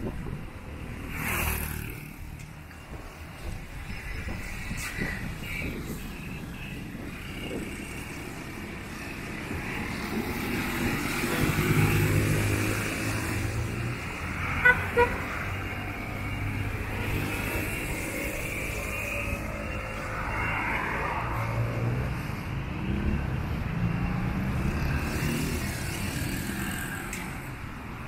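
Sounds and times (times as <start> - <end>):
motorcycles passing: 0.1 - 28.0.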